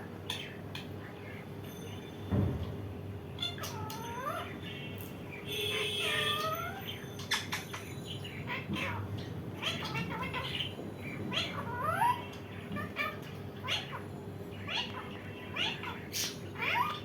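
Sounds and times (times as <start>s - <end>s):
parrot calling: 3.4s - 17.0s.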